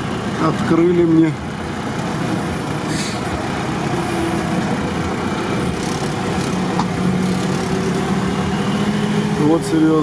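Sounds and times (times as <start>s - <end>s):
vehicle engine low drone: 0.0s - 10.0s.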